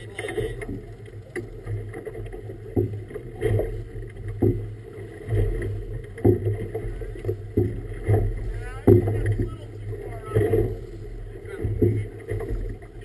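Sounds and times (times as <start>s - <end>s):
steady low rumble: 0.0s - 13.0s
water slapping against boat hull: 0.0s - 13.0s.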